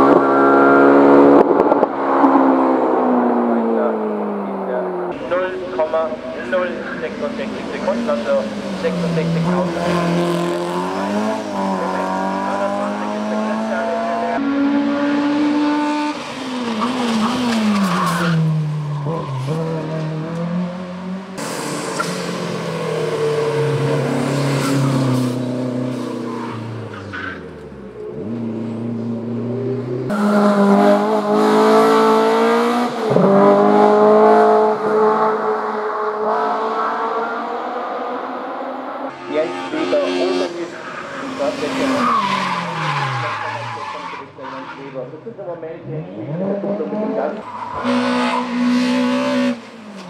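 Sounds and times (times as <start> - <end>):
racing car engines revving: 0.0 - 50.0
racing cars passing by: 0.0 - 50.0.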